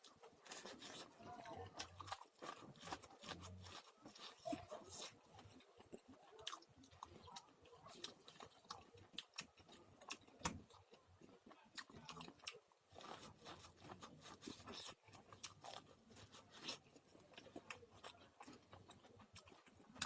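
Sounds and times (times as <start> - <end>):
person chewing popcorn: 0.0 - 20.0.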